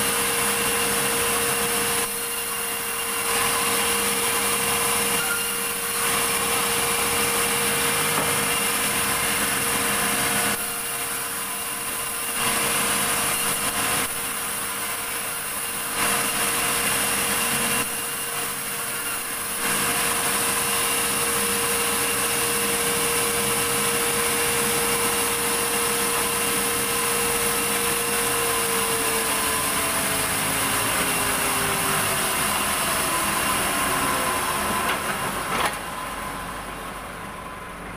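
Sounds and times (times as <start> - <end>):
sawmill saw cutting log: 0.0 - 36.9.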